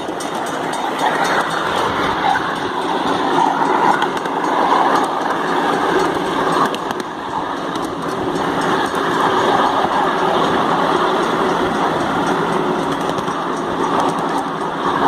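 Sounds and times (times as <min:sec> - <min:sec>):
miniature train wheels on rails: 0:00.0 - 0:15.0.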